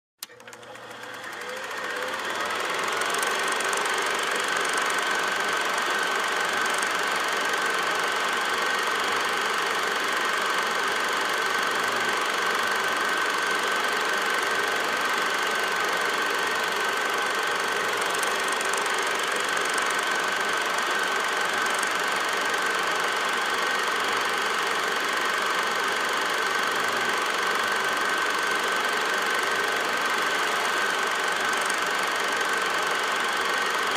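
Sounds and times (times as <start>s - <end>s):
film projector rattling: 0.2s - 33.9s.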